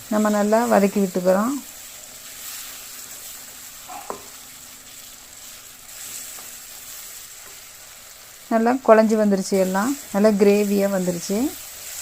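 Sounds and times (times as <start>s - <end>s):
tomatoes sizzling in oil: 0.0s - 12.0s
stirring in a pan: 0.1s - 12.0s.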